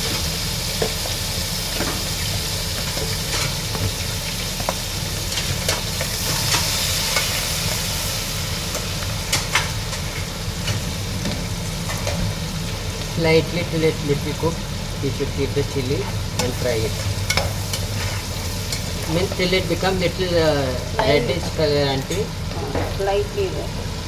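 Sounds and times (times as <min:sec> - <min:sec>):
chilies sizzling in hot oil: 0:00.0 - 0:24.0.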